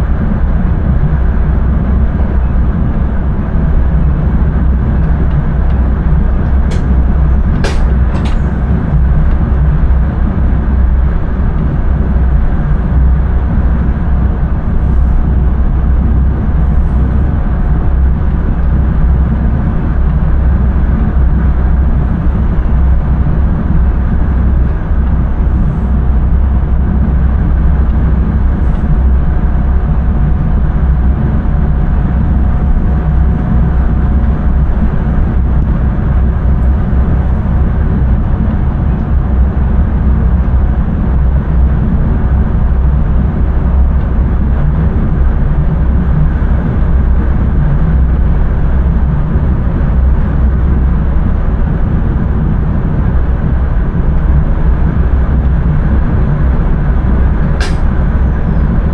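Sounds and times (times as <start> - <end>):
electric train rumbling: 0.0 - 58.9.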